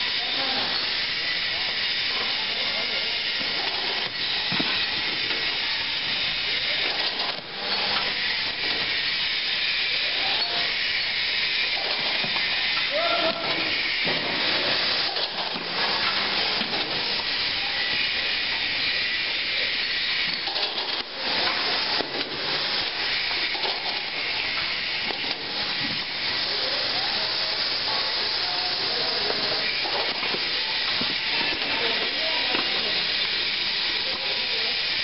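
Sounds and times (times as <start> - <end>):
machinery hissing: 0.0 - 35.0.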